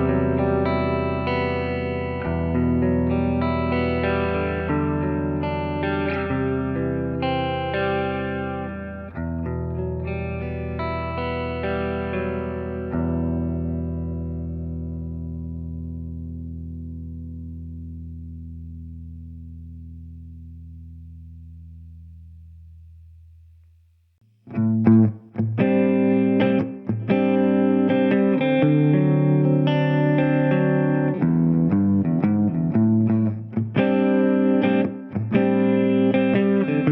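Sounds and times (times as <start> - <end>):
electric guitar chords and notes: 0.0 - 22.2, 24.5 - 36.9.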